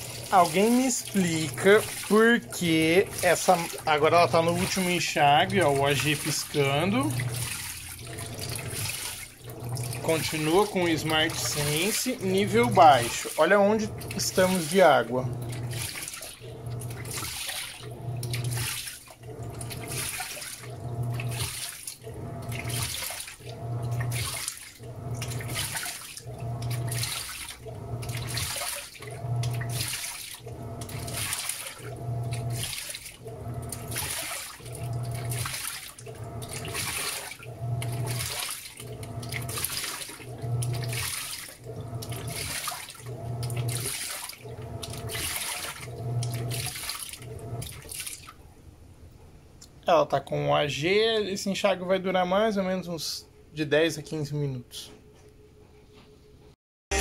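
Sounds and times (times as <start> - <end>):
water sloshing: 0.0 - 48.6
washing machine motor humming: 0.0 - 49.2.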